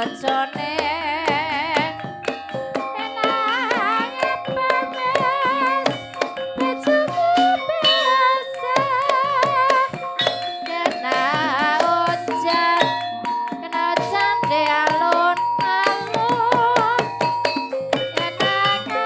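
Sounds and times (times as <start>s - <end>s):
hand drum strokes: 0.0s - 19.0s
ringing metallophone notes: 0.0s - 19.0s
wavering melody with vibrato: 0.0s - 19.0s.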